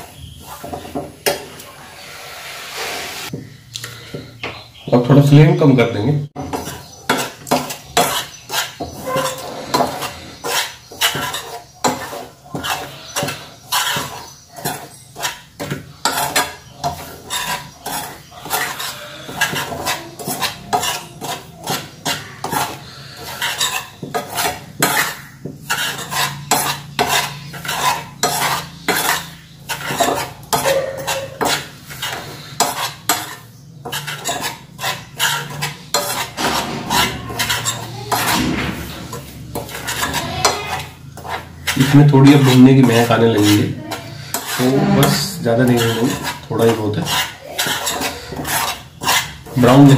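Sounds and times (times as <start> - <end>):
spoon scraping metal pan: 0.0 - 5.4, 6.3 - 49.9.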